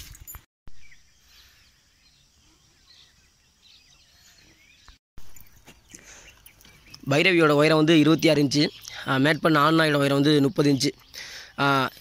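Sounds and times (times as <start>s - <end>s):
distant birds chirping: 0.7s - 12.0s.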